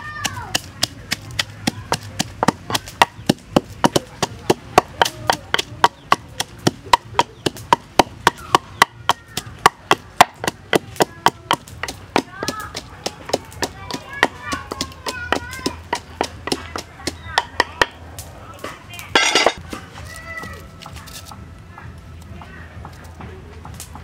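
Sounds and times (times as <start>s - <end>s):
wooden pestle pounding in mortar: 0.0s - 18.0s, 18.6s - 19.8s.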